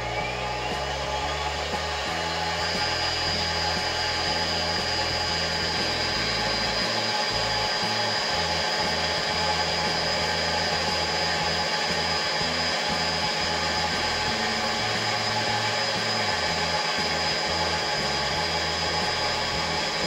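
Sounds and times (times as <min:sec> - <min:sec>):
background music: 0:00.0 - 0:20.0
lens edging machine whining: 0:00.0 - 0:20.0.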